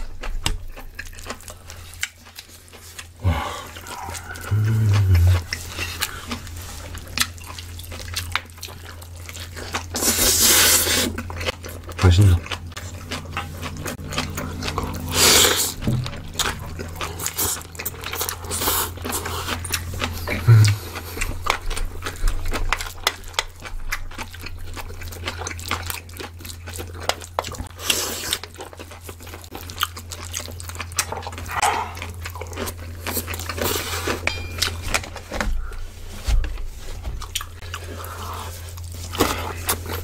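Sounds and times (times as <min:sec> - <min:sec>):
food crunching: 0:00.0 - 0:40.0
wet chewing and smacking: 0:00.0 - 0:40.0
steady low hum: 0:01.0 - 0:23.7, 0:29.0 - 0:40.0.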